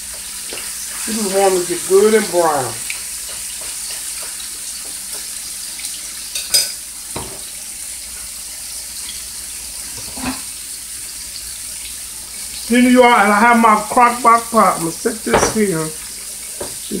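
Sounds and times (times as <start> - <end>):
meat sizzling in a skillet: 0.0 - 17.0.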